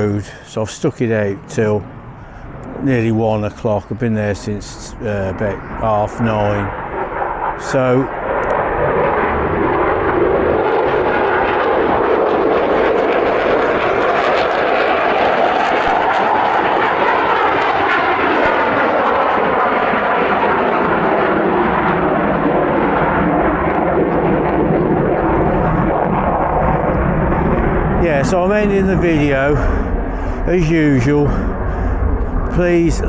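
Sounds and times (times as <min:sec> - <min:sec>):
aircraft engine passing: 0:00.0 - 0:33.0.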